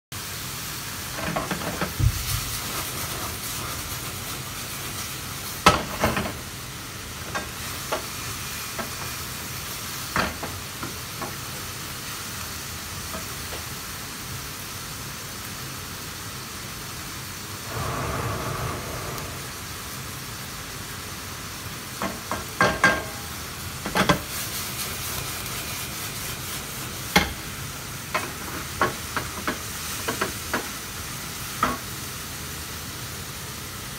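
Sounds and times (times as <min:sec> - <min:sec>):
frying pan sizzling: 0:00.1 - 0:33.9.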